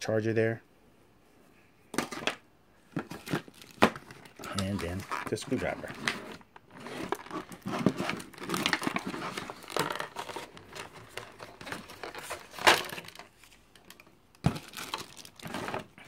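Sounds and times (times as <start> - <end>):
packaging crinkling: 3.0 - 16.0.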